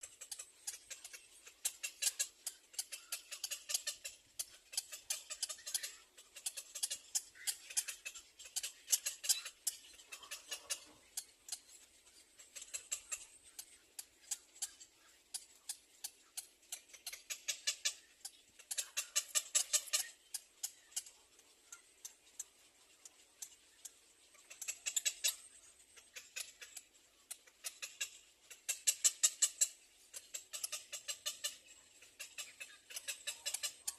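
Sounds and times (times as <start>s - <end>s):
bird chicks cheeping: 0.1s - 33.9s.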